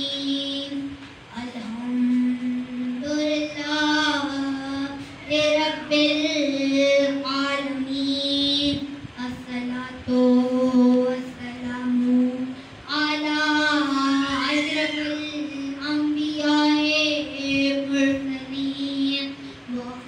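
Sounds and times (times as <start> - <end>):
boy chanting into microphone: 0.0 - 20.0.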